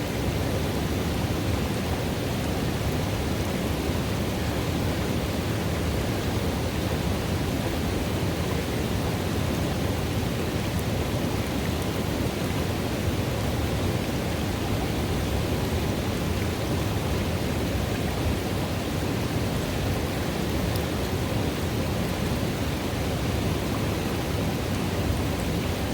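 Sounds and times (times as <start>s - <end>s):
river water rushing: 0.1s - 25.9s.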